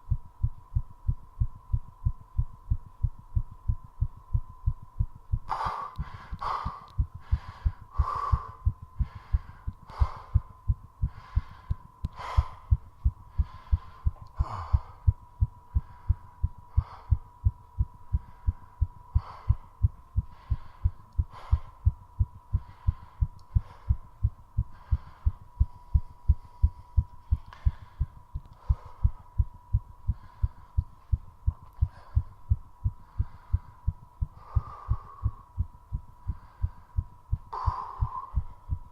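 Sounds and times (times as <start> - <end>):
faint high hum: 0.0 - 38.9
heart beating fast: 0.0 - 38.9
heavy breathing: 5.5 - 38.9.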